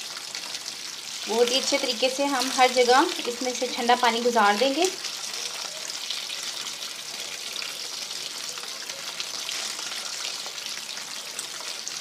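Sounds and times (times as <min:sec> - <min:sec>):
water running over pasta: 0:00.0 - 0:12.0.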